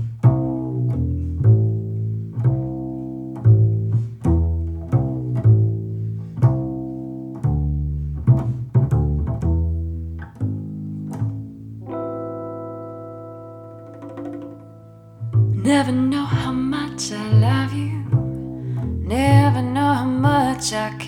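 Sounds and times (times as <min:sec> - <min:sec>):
plucked double bass: 0:00.0 - 0:21.0.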